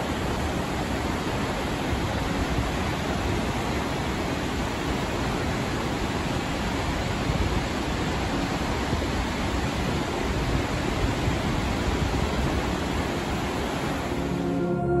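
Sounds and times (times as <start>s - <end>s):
waterfall rushing water: 0.0s - 15.0s.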